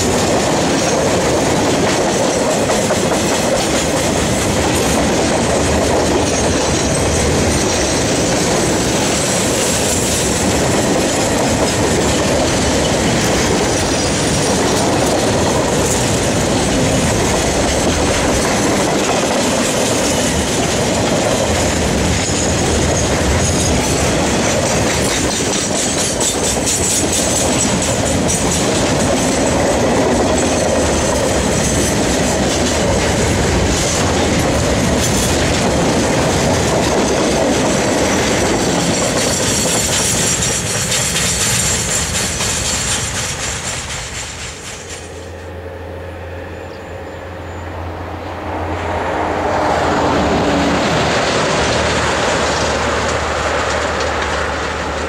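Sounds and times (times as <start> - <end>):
train wheels clattering over rail joints: 0.0 - 45.2, 50.1 - 55.0.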